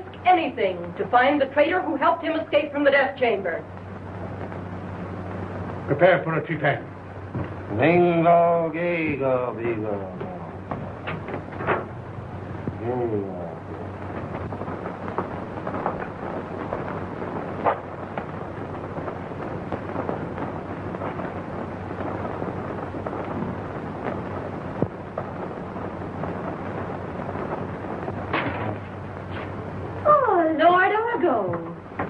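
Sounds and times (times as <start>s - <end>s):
electric arc crackling and buzzing: 0.0s - 32.0s
electrical hum: 0.0s - 32.0s
sharp electric snaps: 0.0s - 32.0s.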